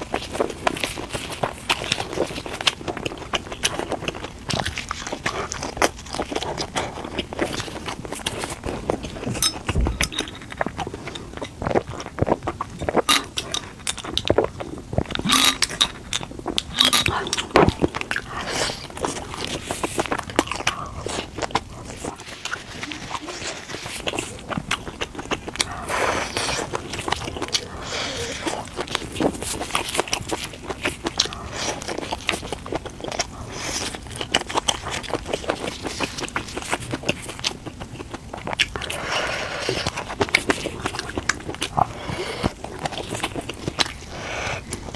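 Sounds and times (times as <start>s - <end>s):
person chewing and biting: 0.0s - 44.9s.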